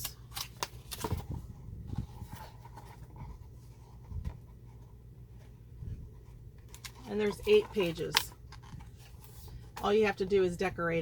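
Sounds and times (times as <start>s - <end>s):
album pages rustling: 0.0s - 10.4s.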